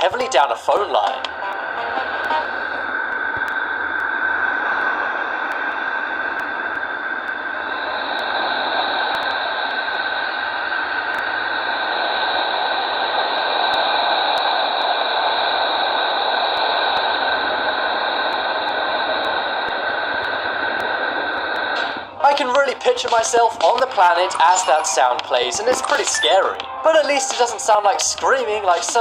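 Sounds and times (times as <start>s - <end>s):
steady static-like hiss: 0.0s - 29.0s.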